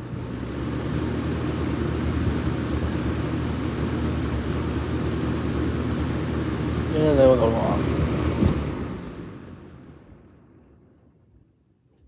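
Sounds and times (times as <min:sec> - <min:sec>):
box fan running: 0:00.0 - 0:10.6.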